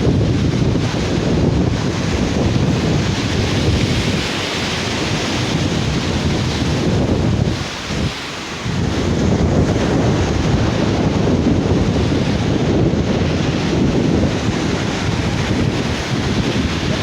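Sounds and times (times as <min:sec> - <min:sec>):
sea surf on beach: 0:00.0 - 0:17.0
wind buffeting microphone: 0:00.0 - 0:17.0.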